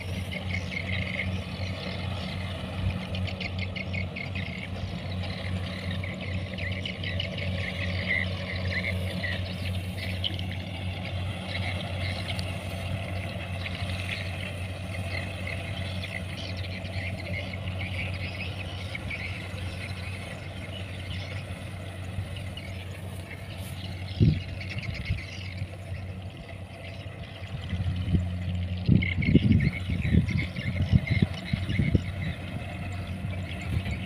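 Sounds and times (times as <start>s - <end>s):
combine harvester engine drone: 0.0s - 34.0s
irregular mechanical chatter: 0.0s - 34.0s.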